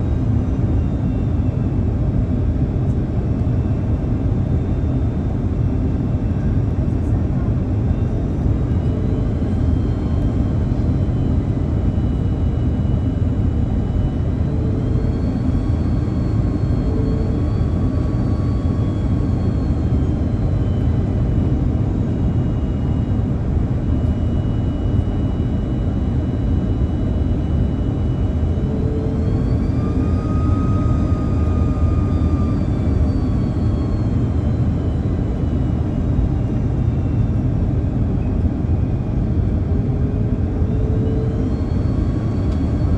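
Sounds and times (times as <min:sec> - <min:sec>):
jet engine roar: 0:00.0 - 0:42.9
thin engine whine: 0:00.0 - 0:42.9.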